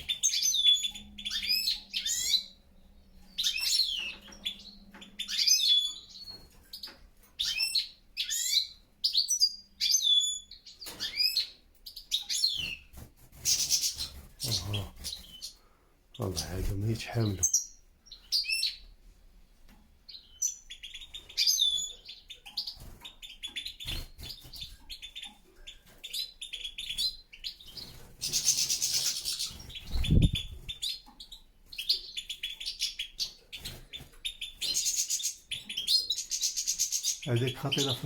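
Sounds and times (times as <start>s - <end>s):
finches chirping and twittering: 0.0s - 19.0s, 20.0s - 38.0s.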